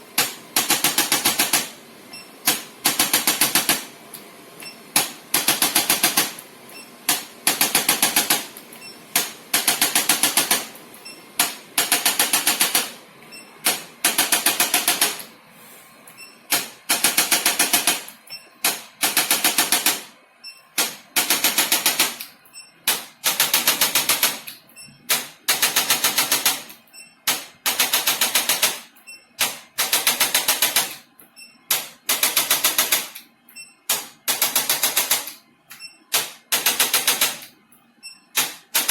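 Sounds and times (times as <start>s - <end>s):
rapid mechanical clicks: 0.2s - 13.0s, 13.6s - 15.3s, 16.5s - 33.3s, 33.9s - 37.6s, 38.3s - 38.9s.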